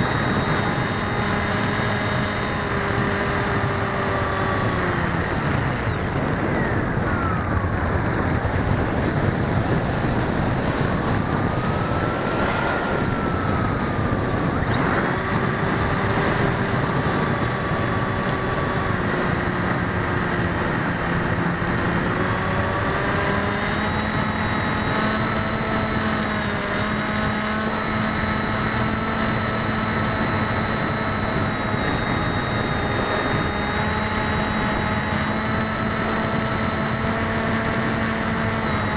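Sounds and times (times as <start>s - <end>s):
electric motors and propellers whining: 0.0s - 38.9s
wind noise: 0.0s - 38.9s.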